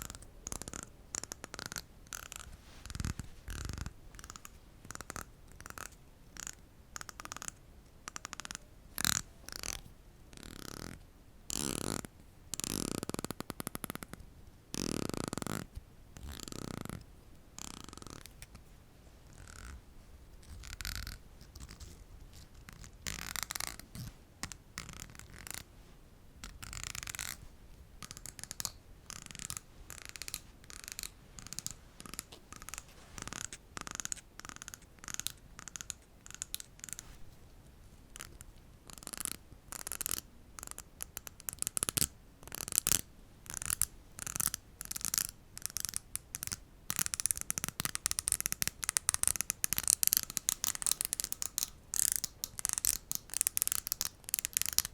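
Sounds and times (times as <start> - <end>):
scratching on objects: 0.0 - 7.4, 17.6 - 54.9.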